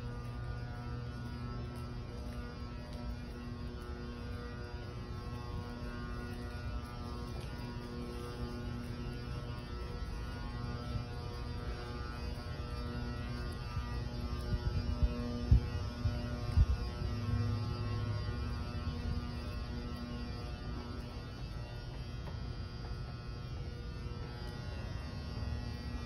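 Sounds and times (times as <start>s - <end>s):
low rumble: 0.0s - 24.6s
faint steady tones: 0.0s - 26.0s.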